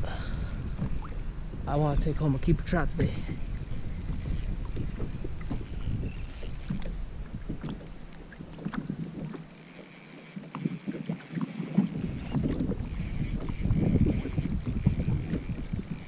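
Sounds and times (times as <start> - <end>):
wind buffeting microphone: 0.0 - 9.5, 10.5 - 16.0.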